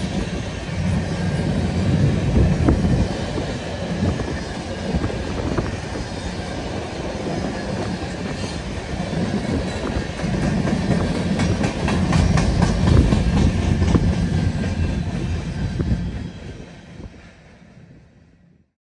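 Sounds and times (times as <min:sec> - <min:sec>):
steel wheels rumbling on rails: 0:00.0 - 0:18.5.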